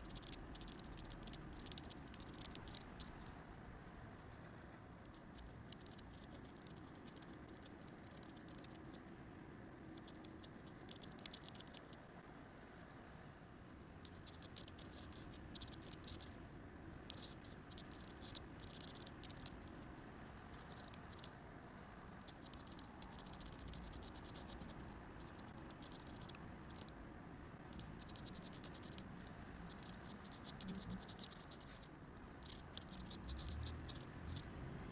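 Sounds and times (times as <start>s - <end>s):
low steady hiss: 0.0s - 34.9s.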